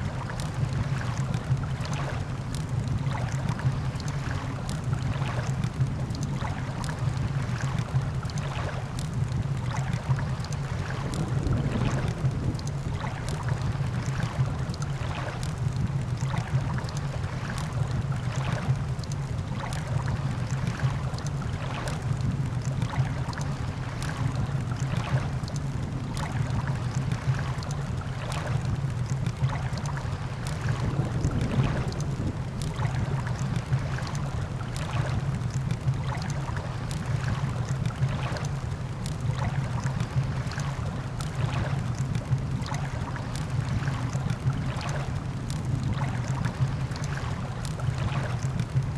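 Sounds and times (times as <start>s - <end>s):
low rumble of surf: 0.0s - 48.9s
wind: 0.0s - 48.9s.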